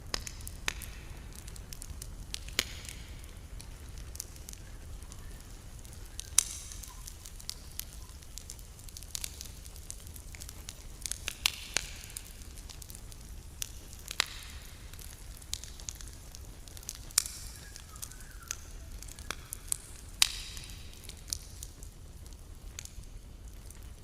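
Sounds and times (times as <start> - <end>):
campfire crackling: 0.0 - 24.0
sharp pops of fire: 0.0 - 24.0.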